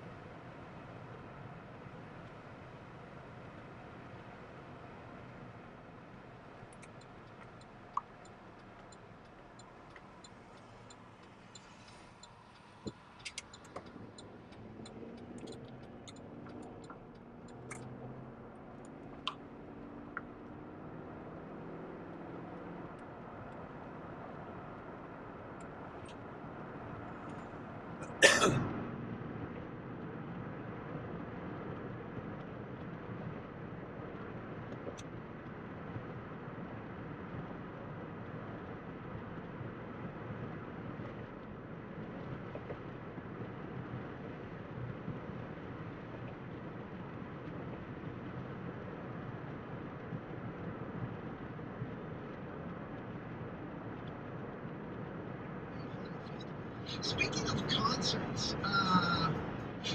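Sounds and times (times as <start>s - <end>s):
car engine: 0.0s - 32.7s, 38.1s - 59.9s
road noise: 0.0s - 59.9s.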